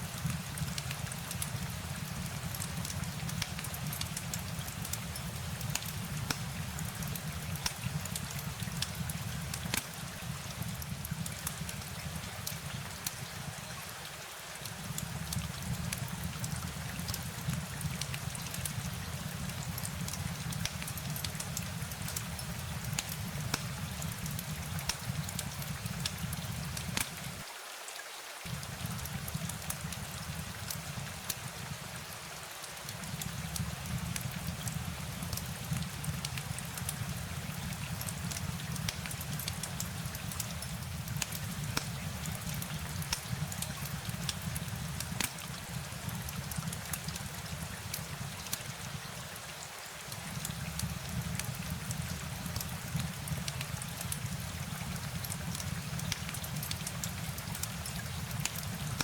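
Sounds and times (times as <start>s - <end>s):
raindrop ticks: 0.0s - 13.9s, 14.6s - 27.4s, 28.5s - 59.0s
rain hiss: 0.0s - 59.0s.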